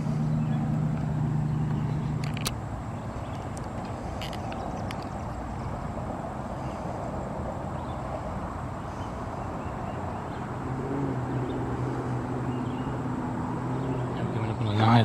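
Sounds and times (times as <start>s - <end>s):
distant traffic rumble: 0.0s - 15.0s
engine hum: 0.0s - 15.0s.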